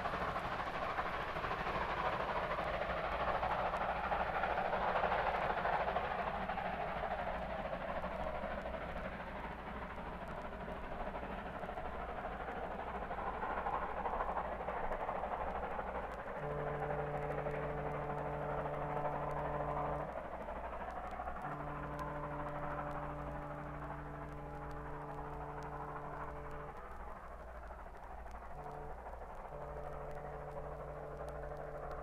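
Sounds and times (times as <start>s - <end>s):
steam locomotive running: 0.0s - 32.0s.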